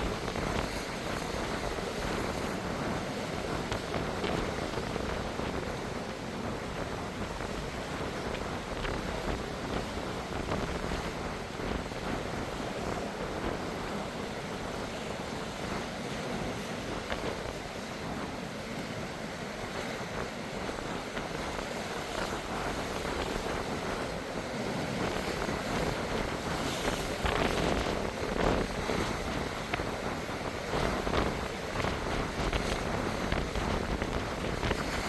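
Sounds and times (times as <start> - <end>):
sea waves: 0.0 - 35.0
strong wind on microphone: 0.0 - 35.0.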